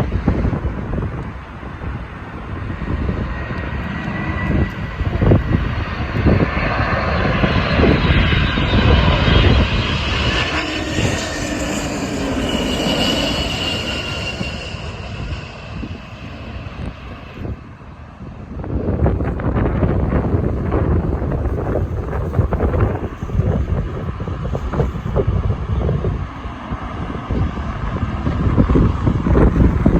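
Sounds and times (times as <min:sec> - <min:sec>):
jet engines roaring: 0:00.0 - 0:29.9
wind buffeting microphone: 0:00.0 - 0:29.9.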